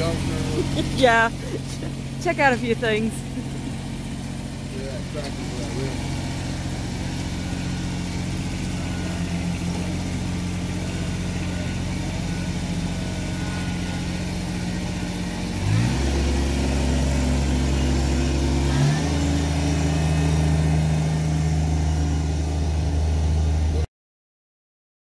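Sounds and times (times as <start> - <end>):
diesel engine revving: 0.0 - 23.9.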